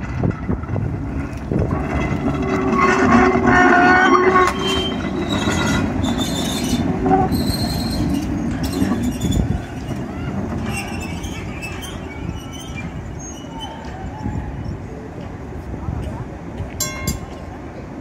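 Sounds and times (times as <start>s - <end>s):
wheels squealing on curve: 0.0s - 15.1s
streetcar wheels rumbling on rail: 0.0s - 18.0s.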